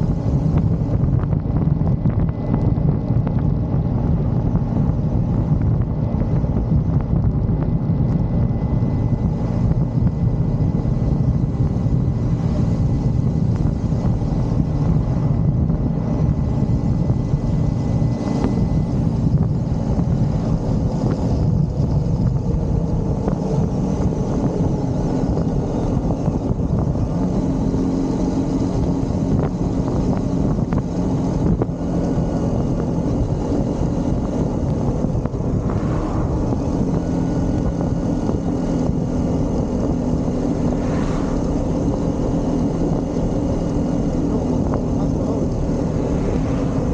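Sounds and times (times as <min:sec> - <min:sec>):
motorcycle engine running: 0:00.0 - 0:46.9
wind on microphone: 0:00.0 - 0:46.9.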